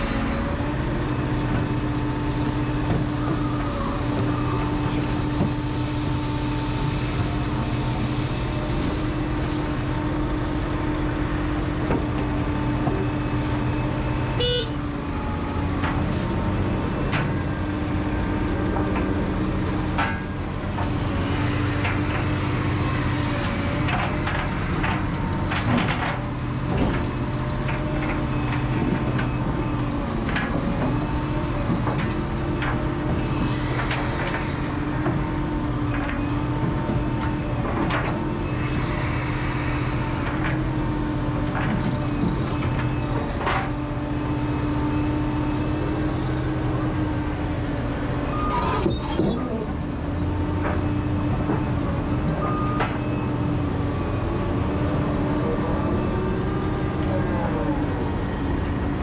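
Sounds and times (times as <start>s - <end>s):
excavator engine and hydraulics: 0.0s - 59.0s.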